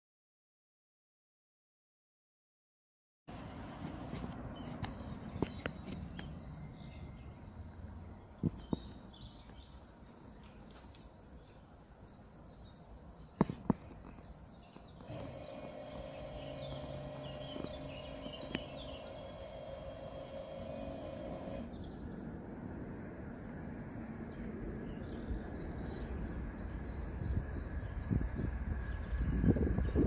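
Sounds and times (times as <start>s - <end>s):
songbirds chirping: 3.3s - 30.0s.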